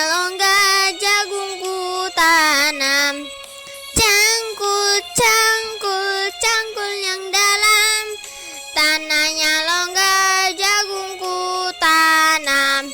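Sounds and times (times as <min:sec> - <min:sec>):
high voice singing: 0:00.0 - 0:03.4, 0:04.0 - 0:12.9.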